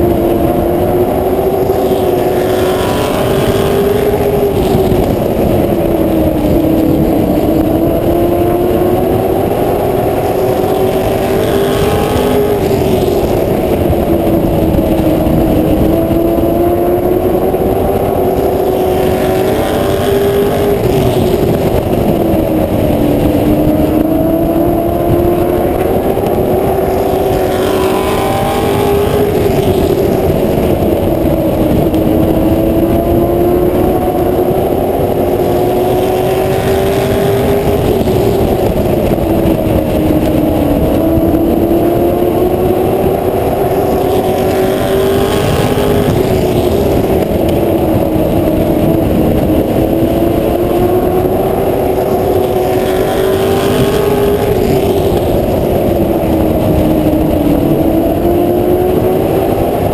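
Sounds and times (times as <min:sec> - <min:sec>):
race car engine revving: 0:00.0 - 0:59.9
wind and road noise: 0:00.0 - 0:59.9.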